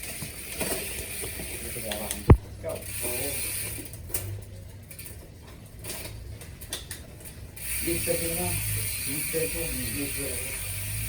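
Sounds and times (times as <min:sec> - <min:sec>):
bicycle freewheel ratchet ticking: 0:00.0 - 0:11.0.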